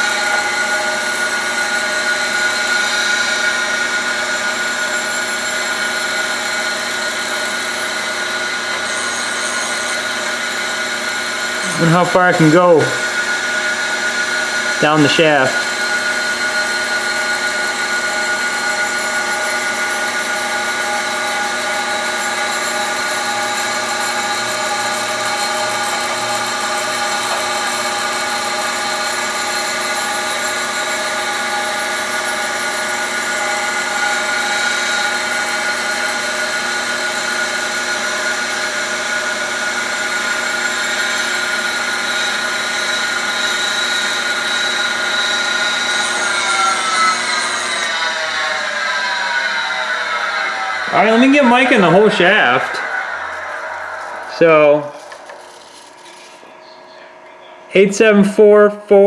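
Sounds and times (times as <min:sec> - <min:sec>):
grinder grinding steel shaft: 0:00.0 - 0:56.7.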